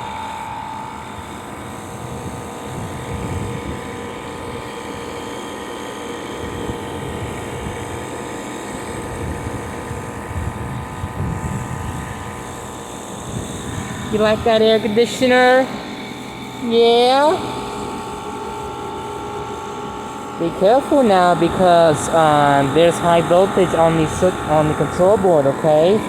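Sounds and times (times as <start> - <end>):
air conditioner fan whirring: 0.0 - 26.0.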